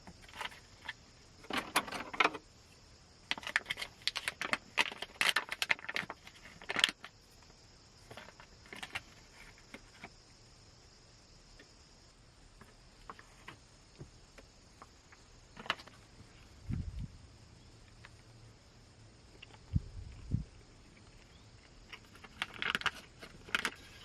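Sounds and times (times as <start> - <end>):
faint steady high hiss: 0.0 - 24.0.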